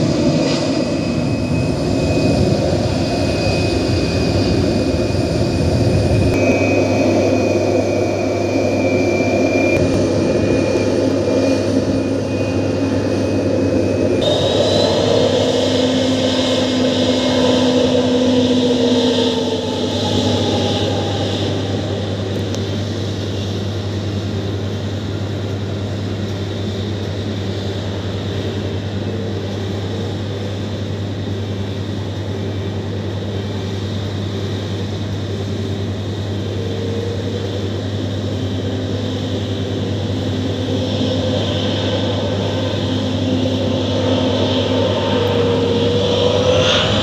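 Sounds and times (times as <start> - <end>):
jet engines whining and rumbling: 0.0 - 47.0.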